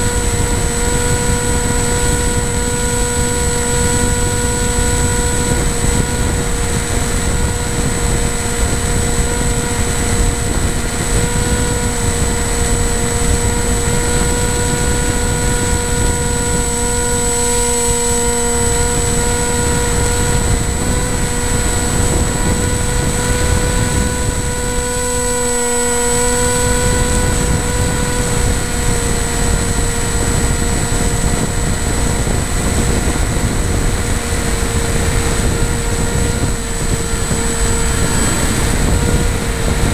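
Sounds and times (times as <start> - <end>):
model aircraft motor humming: 0.0 - 39.9
wind over microphone: 0.0 - 39.9.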